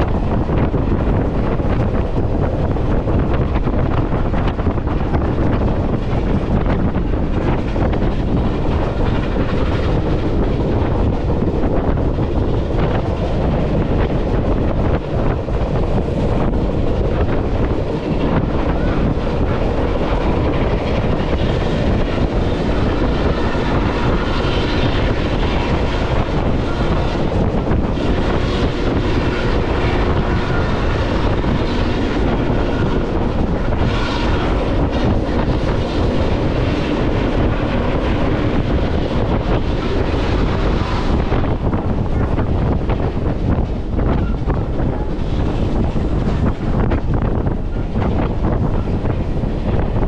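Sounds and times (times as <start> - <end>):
train rumbling over rails: 0.0 - 50.0
wind buffeting microphone: 0.0 - 50.0.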